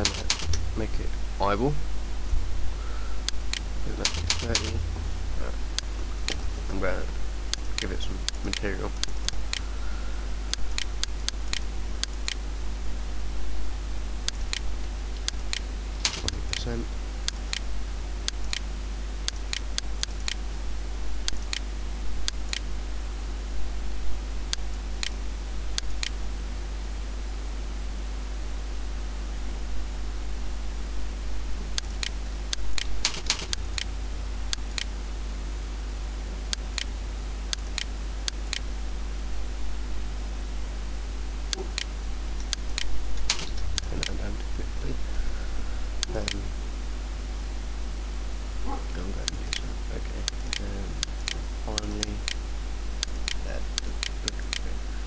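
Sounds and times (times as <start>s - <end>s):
low hum and hiss: 0.0s - 55.0s.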